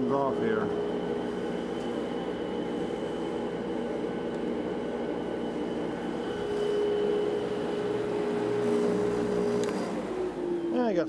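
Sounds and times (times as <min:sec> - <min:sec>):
bandsaw humming: 0:00.0 - 0:11.0.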